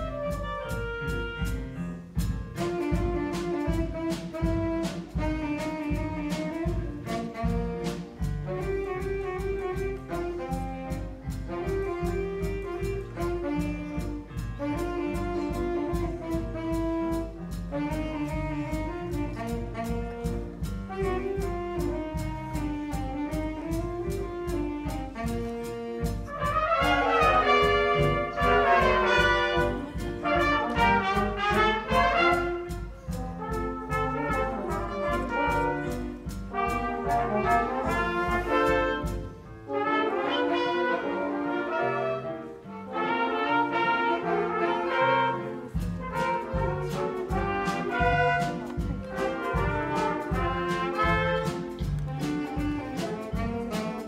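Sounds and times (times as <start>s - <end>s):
steady drum beat: 0.0s - 41.8s, 43.0s - 54.0s
clarinet and horns: 0.0s - 54.0s
jazz band playing: 0.0s - 54.0s.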